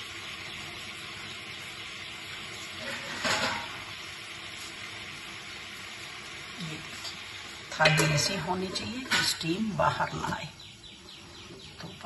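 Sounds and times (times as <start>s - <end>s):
water heating hiss: 0.0s - 12.0s.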